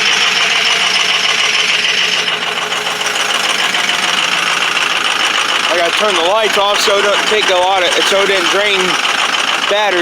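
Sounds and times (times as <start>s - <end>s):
diesel engine clattering: 0.0s - 10.0s.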